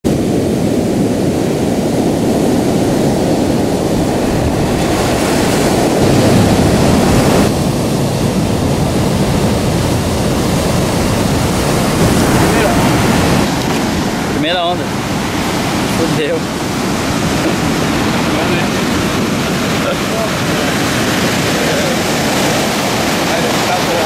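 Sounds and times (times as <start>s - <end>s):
heavy surf breaking: 0.0s - 24.0s
wind buffeting microphone: 0.0s - 24.0s.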